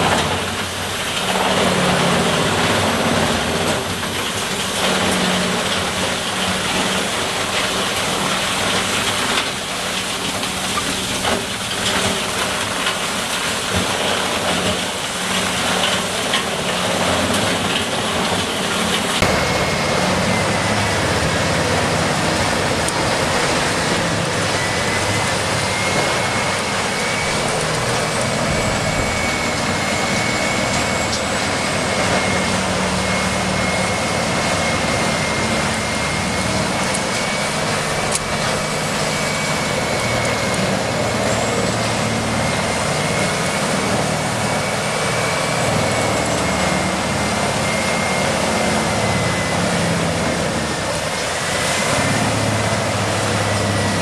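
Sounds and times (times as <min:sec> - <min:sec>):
heavy machinery running: 0:00.0 - 0:54.0
high mechanical whine: 0:00.0 - 0:54.0.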